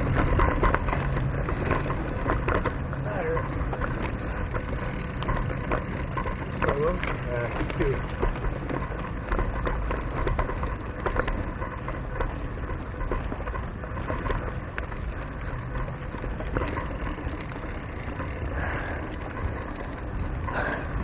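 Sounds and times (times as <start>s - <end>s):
bike clicks and rattles: 0.0s - 21.0s
bike tyres rumbling on dirt: 0.0s - 21.0s.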